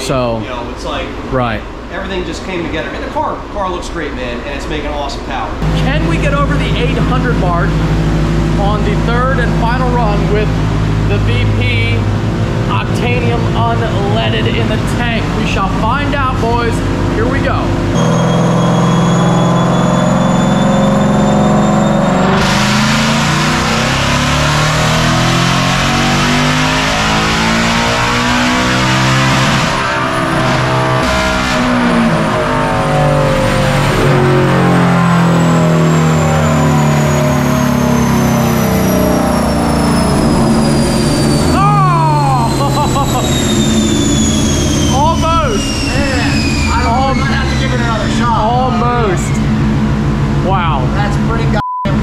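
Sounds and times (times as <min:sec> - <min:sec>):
supercharger whine: 0:00.0 - 0:52.0
car engine revving at full throttle: 0:05.6 - 0:52.0.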